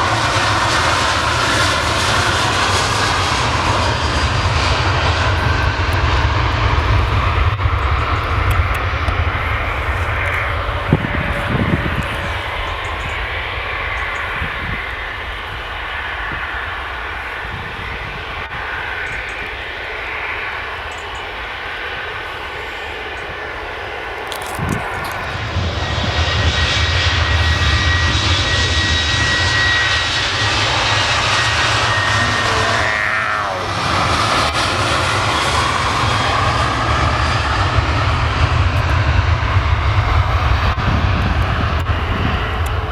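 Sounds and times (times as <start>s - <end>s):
jet engine high whine: 0.0s - 42.9s
jet engines roaring: 0.0s - 42.9s.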